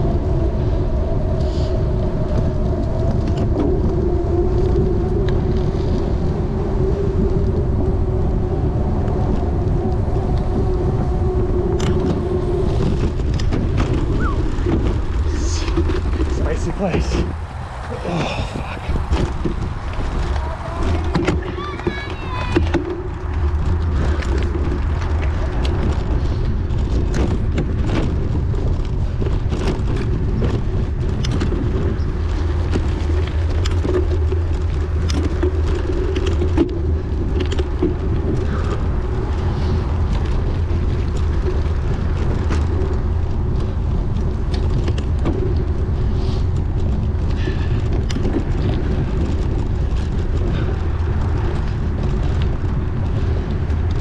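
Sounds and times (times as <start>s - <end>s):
bicycle rattling: 0.0s - 54.0s
wind rumbling on microphone: 0.0s - 54.0s.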